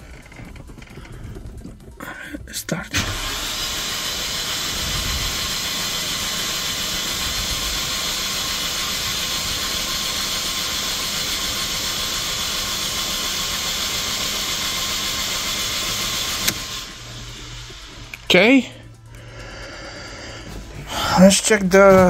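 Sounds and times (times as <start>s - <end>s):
starter motor cranking engine: 0.0s - 22.0s.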